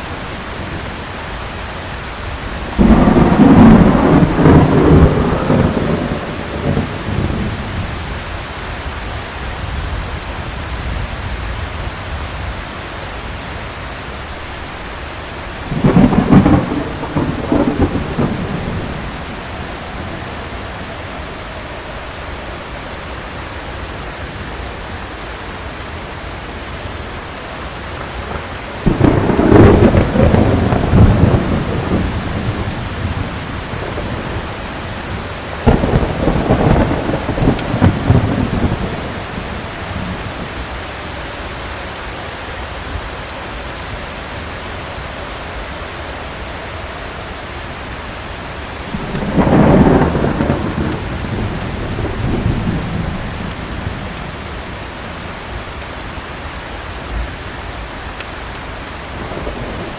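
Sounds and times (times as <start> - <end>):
thunder rumbling: 0.0 - 12.6, 14.4 - 43.2, 47.8 - 59.9
heavy rain: 0.0 - 59.9.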